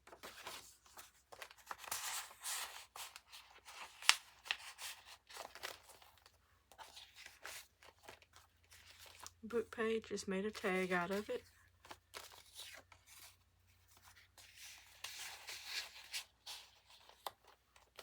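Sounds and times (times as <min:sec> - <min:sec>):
paper rustling and crinkling: 0:00.0 - 0:09.4, 0:10.0 - 0:18.0.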